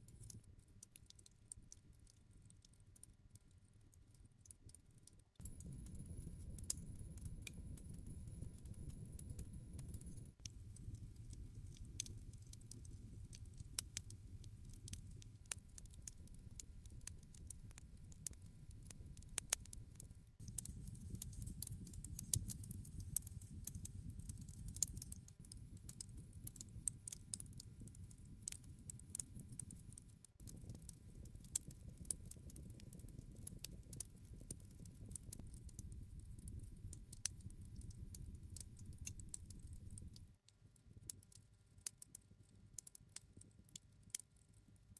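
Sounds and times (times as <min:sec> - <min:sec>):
low rumble of burning fire: 0:00.9 - 0:41.2
campfire crackling and popping: 0:04.6 - 0:41.3.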